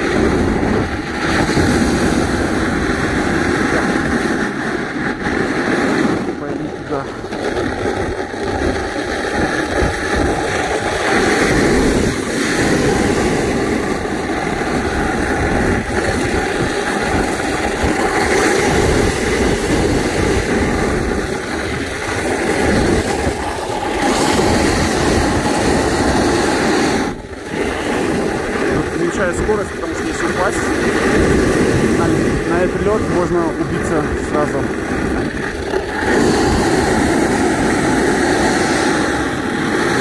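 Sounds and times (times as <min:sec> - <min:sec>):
snowboard scraping on snow: 0:00.0 - 0:40.0.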